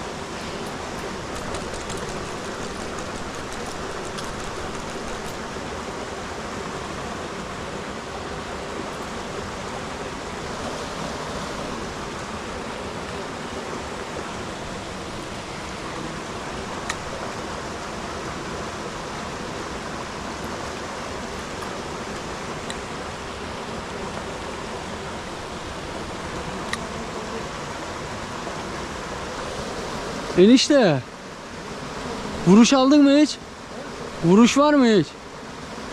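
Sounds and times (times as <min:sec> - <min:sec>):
creek water rushing over rocks: 0:00.0 - 0:35.9.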